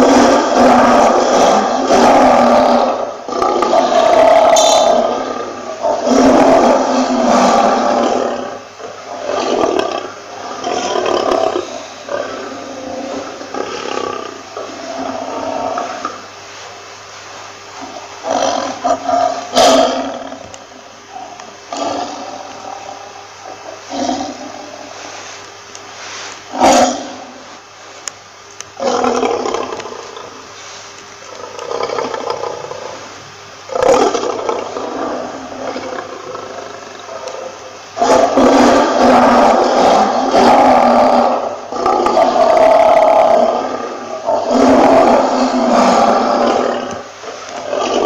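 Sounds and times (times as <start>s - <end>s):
lion roaring: 0.0s - 16.3s, 17.8s - 25.0s, 26.5s - 27.6s, 28.8s - 30.5s, 31.3s - 33.1s, 33.7s - 48.0s.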